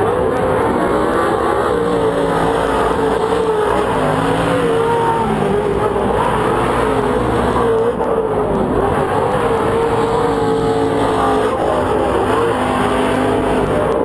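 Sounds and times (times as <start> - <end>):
race truck engines: 0.0 - 14.0.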